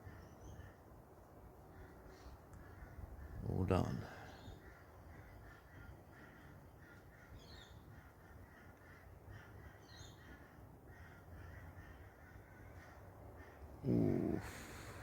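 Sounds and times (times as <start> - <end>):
faint bird calls: 0.0 - 1.0, 1.6 - 15.0.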